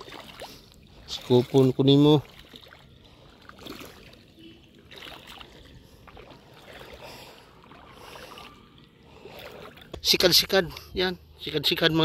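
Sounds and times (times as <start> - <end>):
legs wading through shallow water: 0.0 - 10.7.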